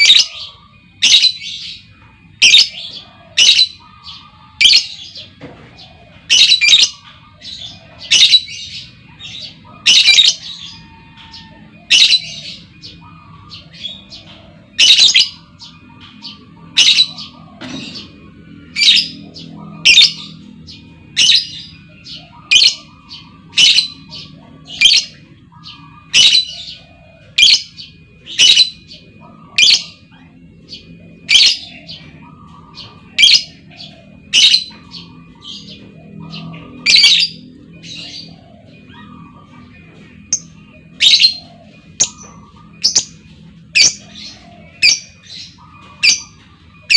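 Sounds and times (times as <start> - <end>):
bird chattering: 0.0 - 46.9.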